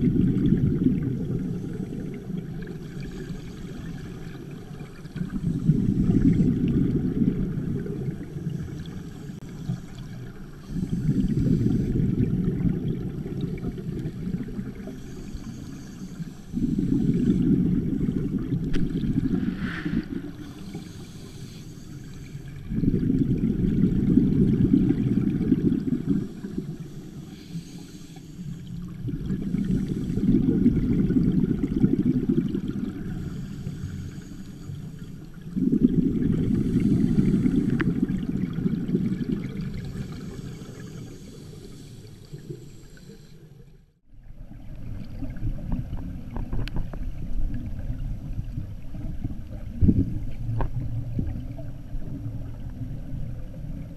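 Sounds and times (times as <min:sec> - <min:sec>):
underwater regulator bubbles: 0:00.0 - 0:43.8.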